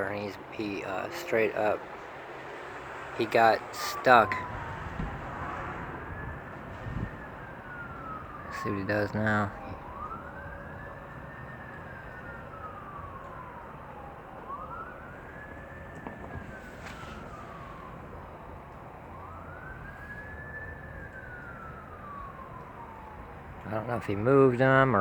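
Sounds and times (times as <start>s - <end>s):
siren wailing: 0.0s - 25.0s.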